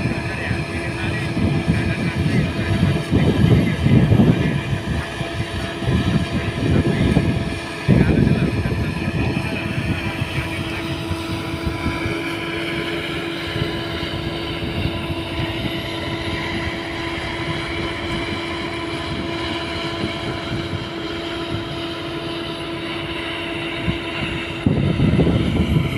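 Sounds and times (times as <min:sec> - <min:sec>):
diesel engine droning: 0:00.0 - 0:25.9
steady whine: 0:00.0 - 0:25.9.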